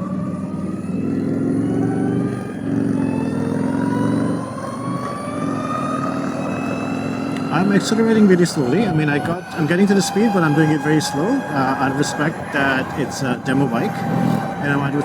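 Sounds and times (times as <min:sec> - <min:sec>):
electric motor whine rising: 0:00.0 - 0:15.0
road noise: 0:00.0 - 0:15.0.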